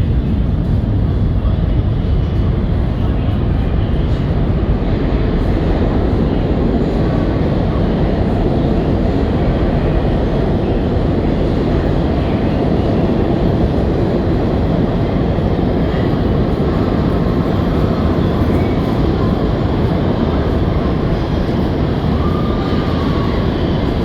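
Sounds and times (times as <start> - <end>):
subway train rumble and hum: 0.0 - 24.0.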